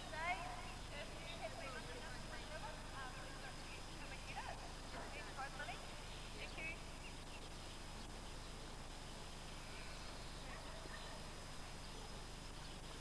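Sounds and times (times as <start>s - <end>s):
faint distant calls: 0.0s - 13.0s
steady hiss: 0.0s - 13.0s.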